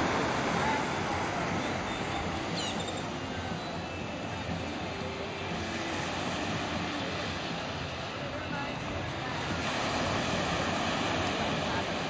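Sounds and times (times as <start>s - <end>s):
small waves breaking on beach: 0.0s - 12.0s.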